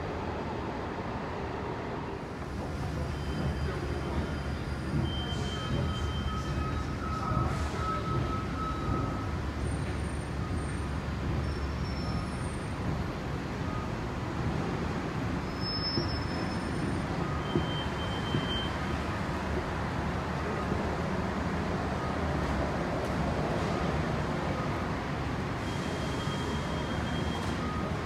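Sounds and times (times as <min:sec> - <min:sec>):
station background noise: 0:00.0 - 0:28.0.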